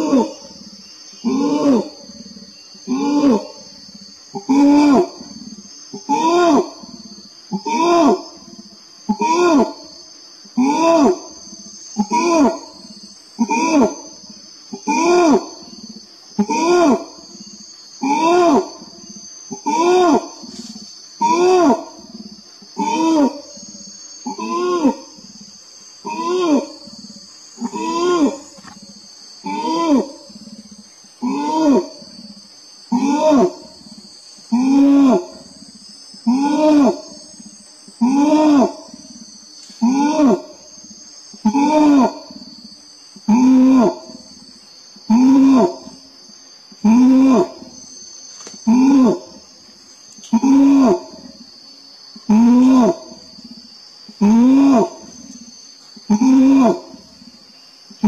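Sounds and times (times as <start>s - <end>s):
orangutan long call: 0.0s - 9.9s, 10.5s - 25.4s, 26.0s - 40.7s, 41.3s - 51.4s, 52.2s - 58.0s
insects droning: 0.0s - 58.0s.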